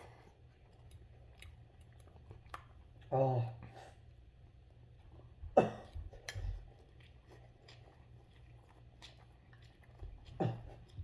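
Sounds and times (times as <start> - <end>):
faint chewing and mouth clicks: 0.0 - 11.0.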